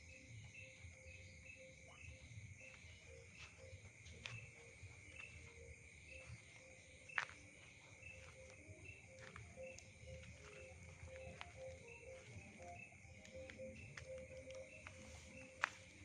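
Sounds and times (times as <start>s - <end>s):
cricket drone with chirps: 0.0s - 16.0s.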